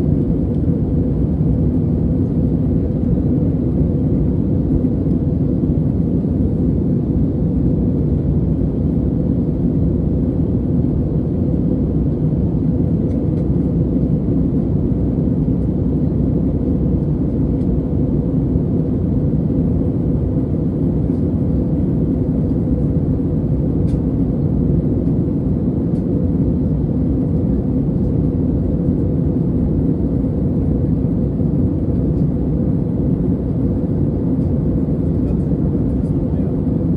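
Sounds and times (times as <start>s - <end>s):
jet engine low rumble: 0.0s - 36.9s.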